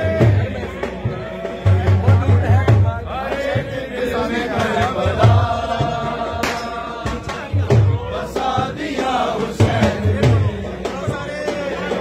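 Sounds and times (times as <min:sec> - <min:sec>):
low rhythmic thumps: 0:00.0 - 0:12.0
men chanting a lament: 0:00.0 - 0:12.0.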